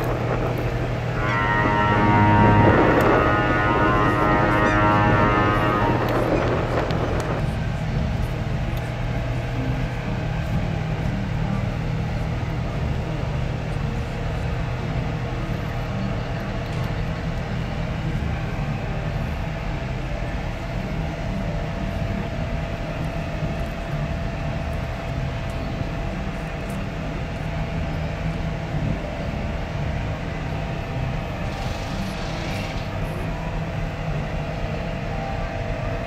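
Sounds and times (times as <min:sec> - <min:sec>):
faint steady hum: 0:00.0 - 0:36.0
ship engines droning: 0:00.0 - 0:36.0.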